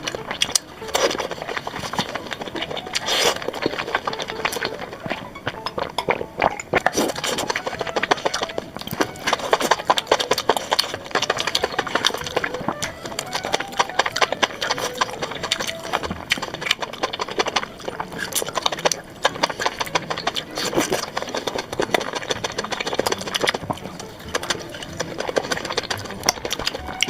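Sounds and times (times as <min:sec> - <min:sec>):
wet chewing and crunching: 0:00.0 - 0:27.0.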